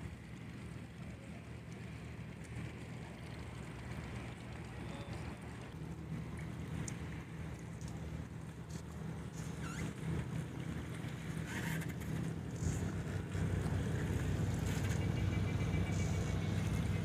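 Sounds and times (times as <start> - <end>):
ship engine drone: 0.0 - 17.0.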